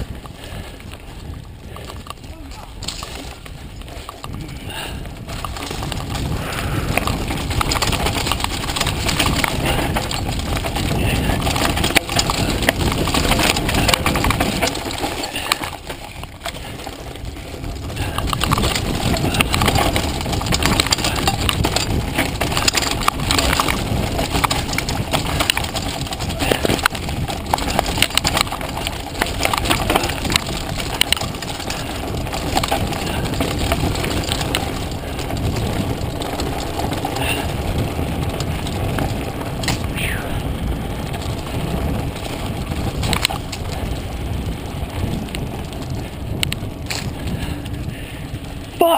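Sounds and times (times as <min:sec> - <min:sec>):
bike knocking over bumps: 0:00.0 - 0:48.1
tyre and trail noise: 0:00.0 - 0:48.9
wind rushing over microphone: 0:00.0 - 0:48.9.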